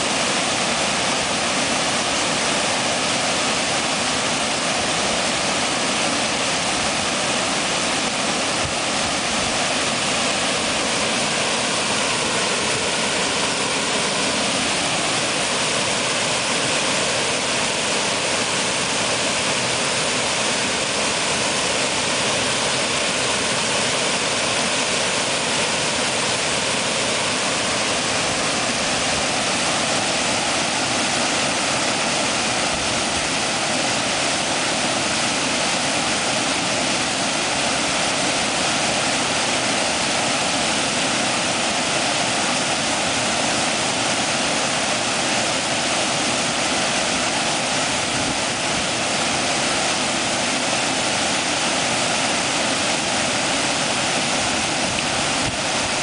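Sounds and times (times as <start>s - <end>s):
water pouring over a spillway: 0.0s - 56.0s.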